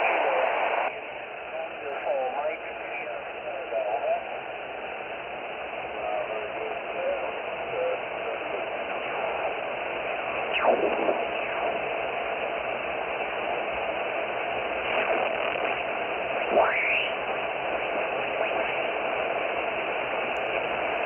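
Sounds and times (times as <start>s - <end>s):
radio static: 0.0s - 21.0s.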